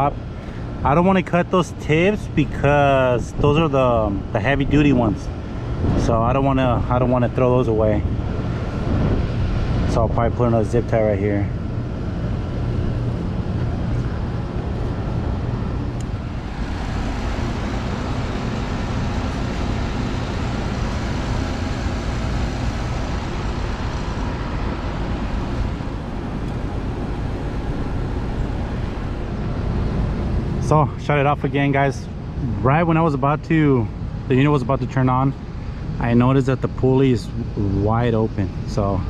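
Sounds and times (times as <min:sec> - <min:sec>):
air conditioner humming: 0:00.0 - 0:39.0.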